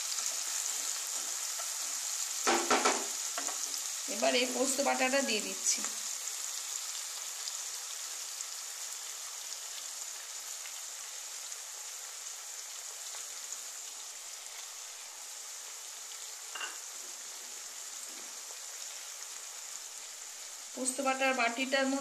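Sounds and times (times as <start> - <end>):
onions sizzling in frying pan: 0.0 - 22.0.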